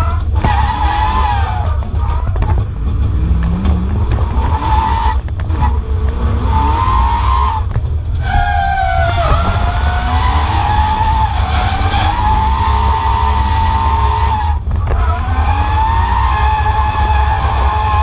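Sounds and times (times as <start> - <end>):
car engine accelerating hard: 0.0 - 18.0
heavy rumble: 0.0 - 18.0.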